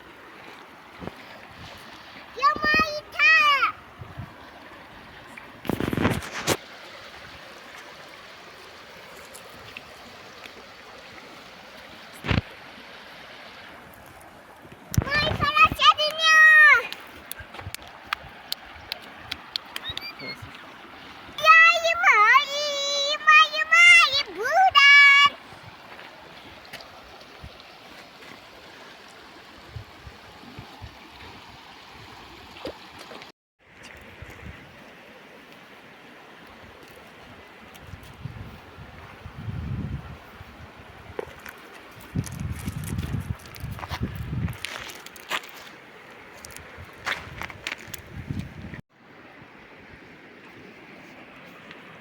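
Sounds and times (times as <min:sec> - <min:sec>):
mountain stream rushing: 0:00.0 - 0:52.0.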